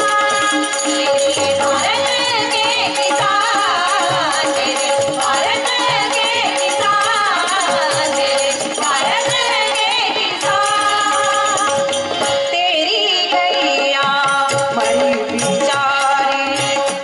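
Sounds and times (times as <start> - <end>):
rattling hand percussion: 0.0 - 17.0.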